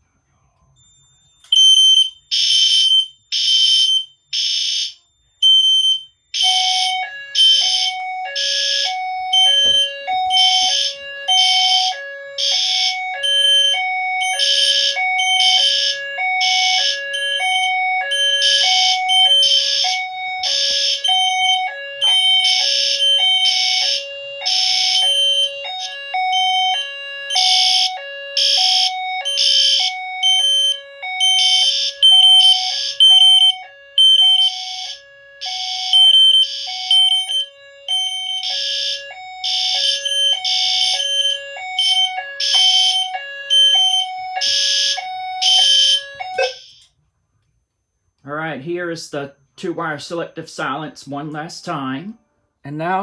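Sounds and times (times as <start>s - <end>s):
two-tone alarm: 0.0s - 47.0s
fire alarm horn pulses: 0.9s - 46.9s.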